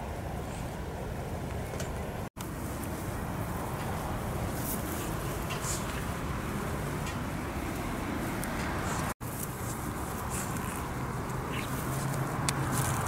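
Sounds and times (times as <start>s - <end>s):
dry grass rustling and crackling: 2.4s - 13.0s.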